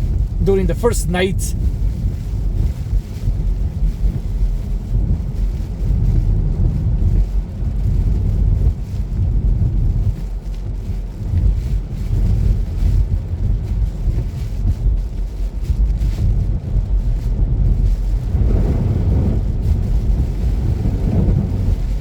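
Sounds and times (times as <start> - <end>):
car tyres and engine rumble: 1.6 - 22.0.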